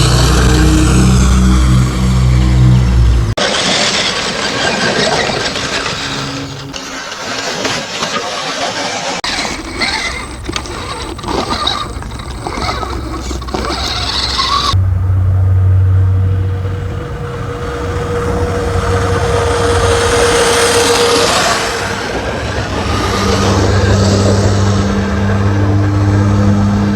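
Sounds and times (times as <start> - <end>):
rc truck crunching over ground: 0.0 - 14.8, 17.6 - 26.9.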